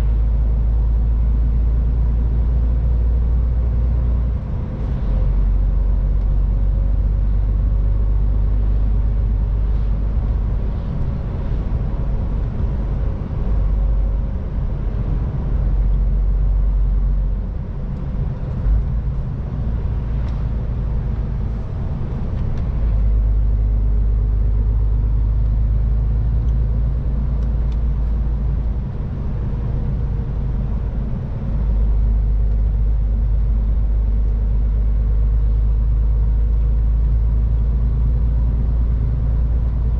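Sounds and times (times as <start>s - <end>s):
truck diesel engine drone: 0.0s - 39.9s
tyre and road noise: 4.3s - 39.9s.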